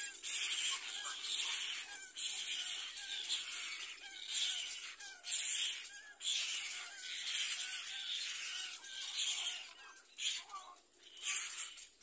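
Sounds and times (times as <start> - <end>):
chicks begging with hissing calls: 0.0 - 9.8.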